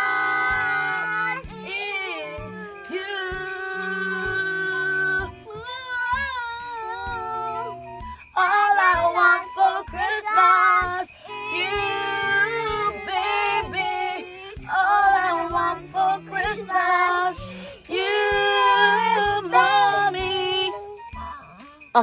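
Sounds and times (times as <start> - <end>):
woman and girls singing: 0.0 - 21.2
pop backing track with jingle bells: 0.0 - 22.0.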